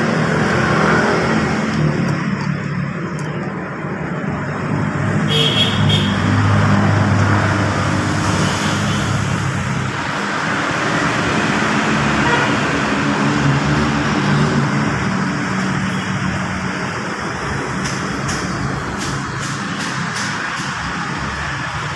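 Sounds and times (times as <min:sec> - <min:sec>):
traffic noise: 0:00.0 - 0:21.9.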